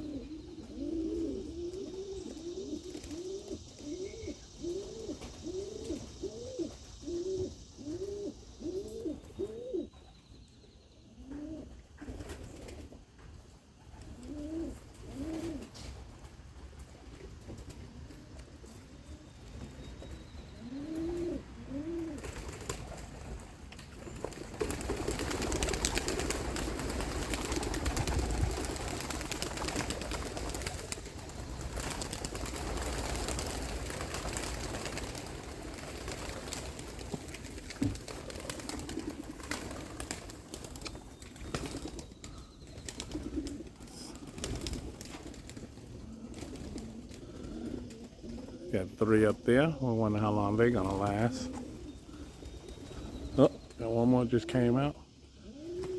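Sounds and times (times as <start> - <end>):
pigeons cooing: 0.0 - 10.0, 11.0 - 12.9, 13.8 - 16.1, 17.0 - 55.9.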